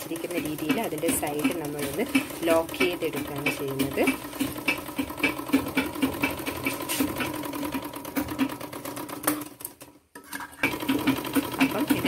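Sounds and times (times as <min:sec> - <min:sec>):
overlock machine stitching: 0:00.0 - 0:12.0.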